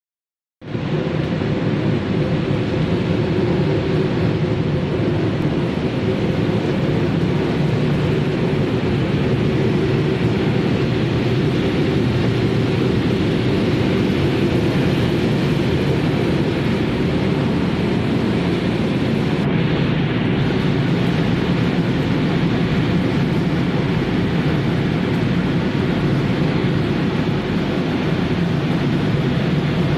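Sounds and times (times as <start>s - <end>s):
factory machinery humming: 0.7s - 29.9s.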